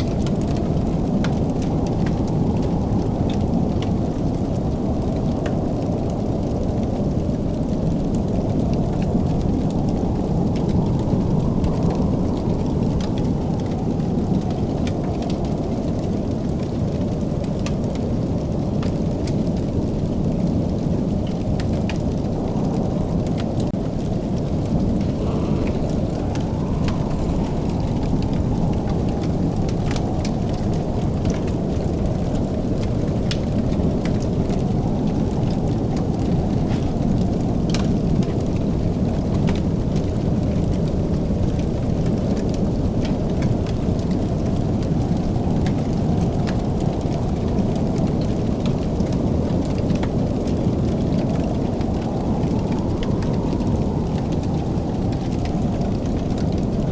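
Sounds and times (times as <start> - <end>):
fire crackling in a fireplace: 0.0 - 56.9.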